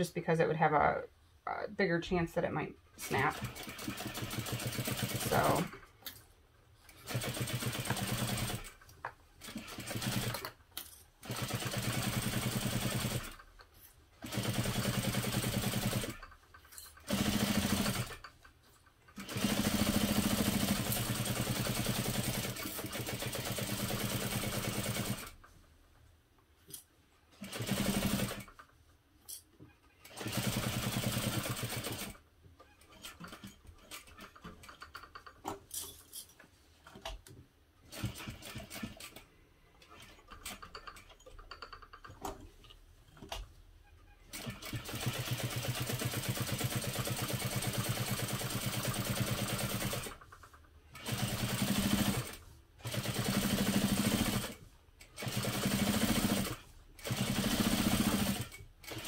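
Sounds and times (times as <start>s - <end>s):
sewing machine stitching: 3.0s - 6.0s, 6.9s - 25.5s, 27.3s - 28.8s, 29.7s - 36.1s, 37.8s - 59.0s.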